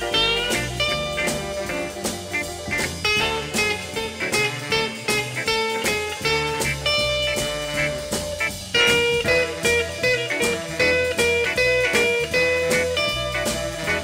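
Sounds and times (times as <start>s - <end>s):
steady beat: 0.0s - 14.0s.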